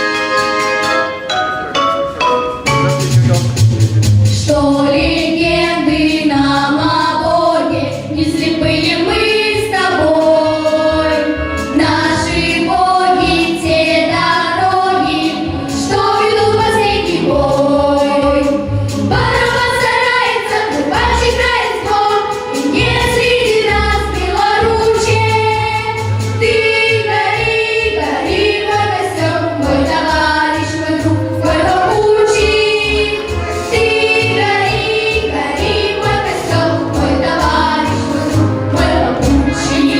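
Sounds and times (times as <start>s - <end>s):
instrumental backing: 0.0s - 39.9s
group singing in unison: 4.5s - 39.9s.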